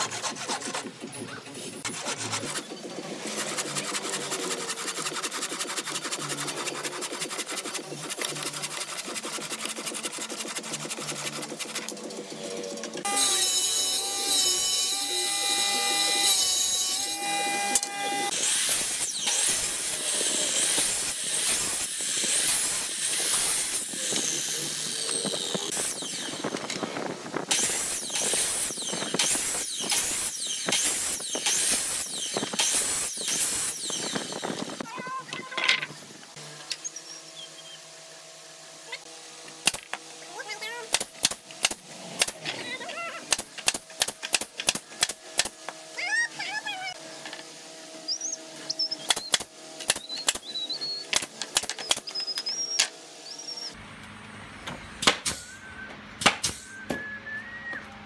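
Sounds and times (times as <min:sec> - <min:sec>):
miter saw cutting wood: 0:00.0 - 0:34.8, 0:36.0 - 0:54.2.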